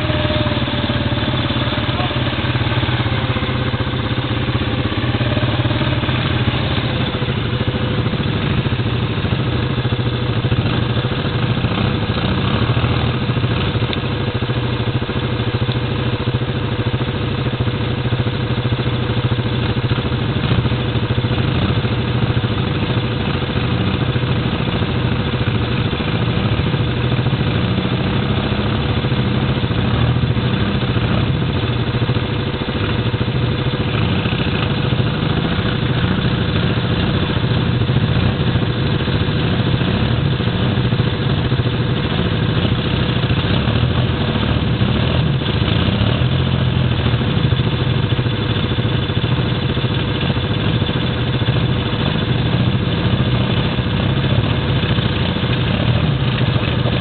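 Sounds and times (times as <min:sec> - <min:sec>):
atv engines idling: 0:00.0 - 0:57.0
steady engine whine: 0:00.0 - 0:57.0.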